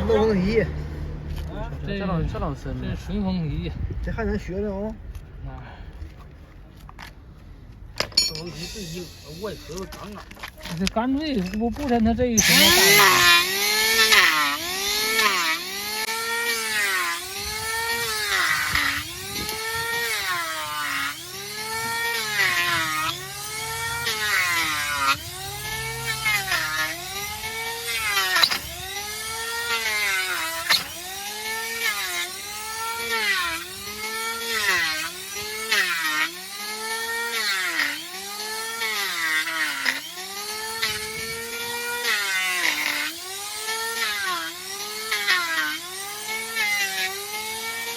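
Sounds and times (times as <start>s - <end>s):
gritty grinding of hoof: 5.9s - 47.9s
electric trimmer motor whine: 8.1s - 47.9s.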